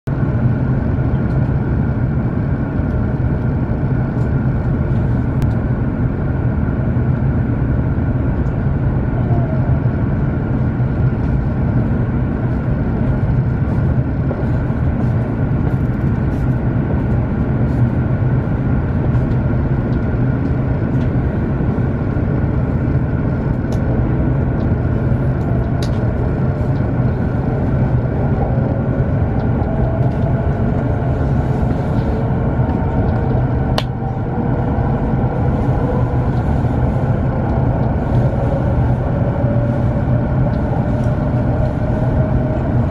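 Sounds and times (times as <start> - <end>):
train wheels rumbling on rails: 0.1 - 42.9.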